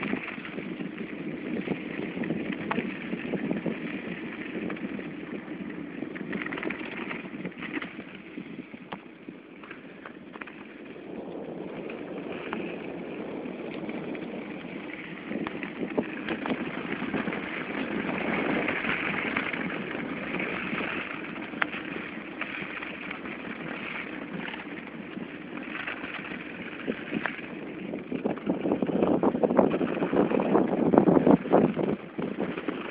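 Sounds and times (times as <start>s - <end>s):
bicycle tyres on snow: 0.0s - 32.9s
bike clicks and rattles: 0.0s - 32.9s
wind buffeting microphone: 0.0s - 32.9s.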